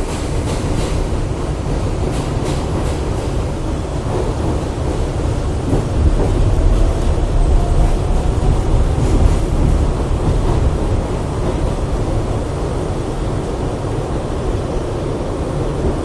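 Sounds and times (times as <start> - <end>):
subway train wheels rumbling: 0.0 - 16.0.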